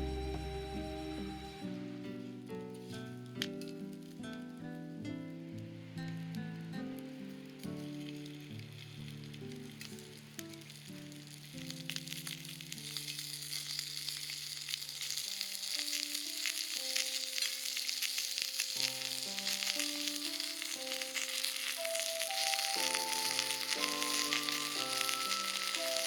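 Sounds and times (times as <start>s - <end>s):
meat sizzling over a campfire: 0.0s - 26.0s.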